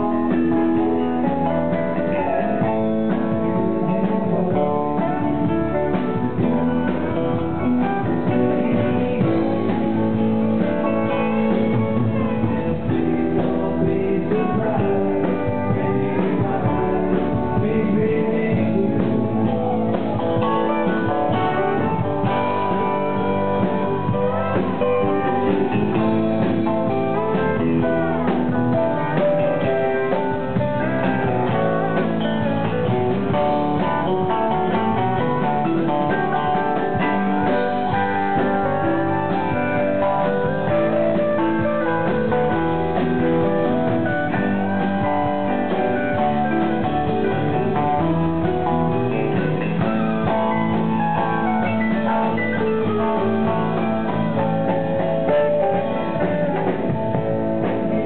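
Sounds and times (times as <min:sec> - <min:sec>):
electric guitar: 0:00.0 - 0:58.0
keyboards: 0:00.0 - 0:58.0.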